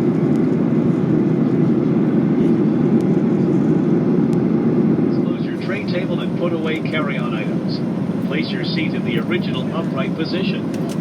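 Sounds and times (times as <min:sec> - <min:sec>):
airplane cabin noise: 0:00.0 - 0:11.0.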